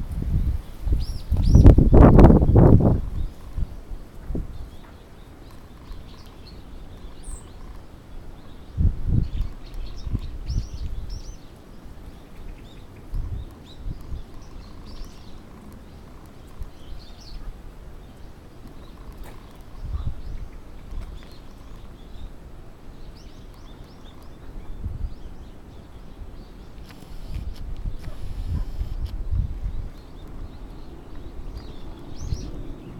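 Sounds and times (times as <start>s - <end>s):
faint outdoor background noise: 0.0s - 32.9s
small birds chirping: 0.6s - 32.9s.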